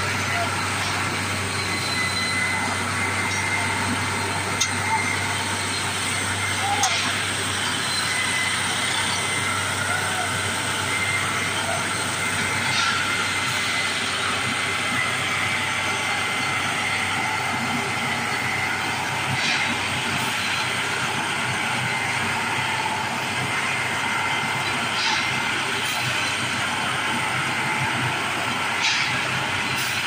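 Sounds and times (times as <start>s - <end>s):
track machine running: 0.0s - 30.0s.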